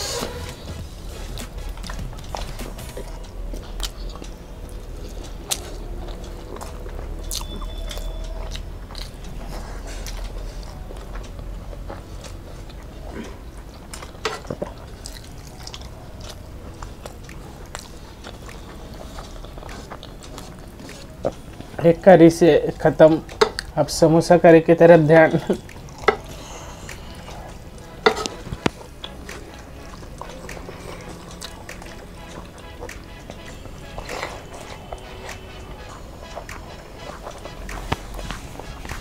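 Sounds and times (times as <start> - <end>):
people chewing food: 0.0 - 39.0
mouth smacks and clicks: 0.1 - 21.8, 25.5 - 39.0.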